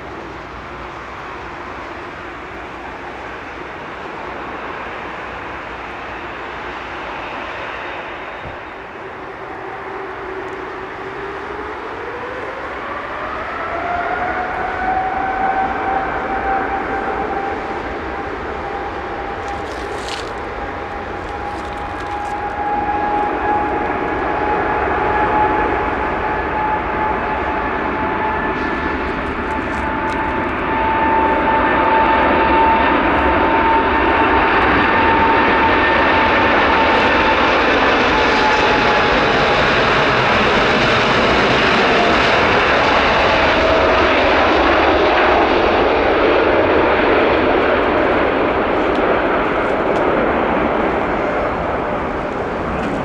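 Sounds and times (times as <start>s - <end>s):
high jet whine: 0.0s - 53.0s
jet engine roar: 0.0s - 53.0s.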